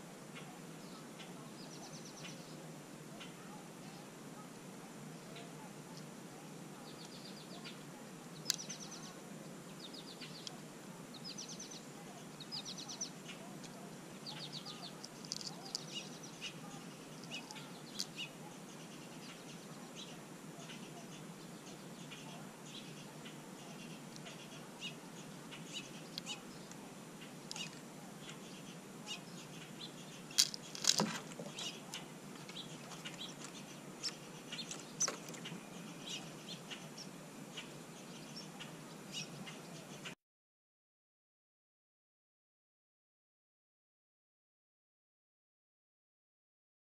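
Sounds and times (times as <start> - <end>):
small birds trilled chirps: 0.0 - 40.2.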